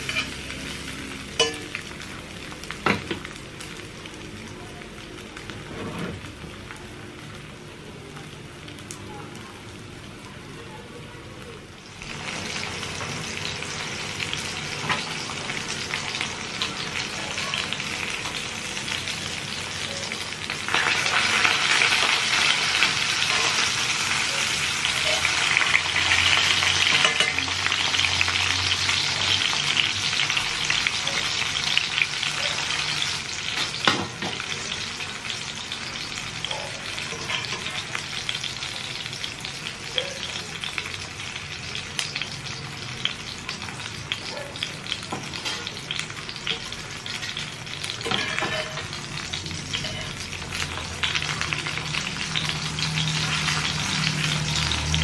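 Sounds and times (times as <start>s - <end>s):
cutlets sizzling in oil: 0.0s - 55.0s.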